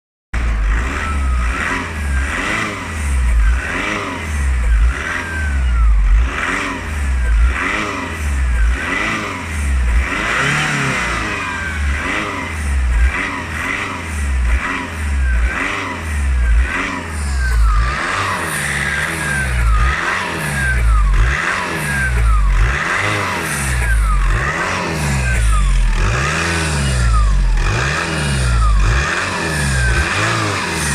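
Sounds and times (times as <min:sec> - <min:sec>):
diesel car engine rumble: 0:00.3 - 0:30.9
rhythmic squeal: 0:00.8 - 0:30.9.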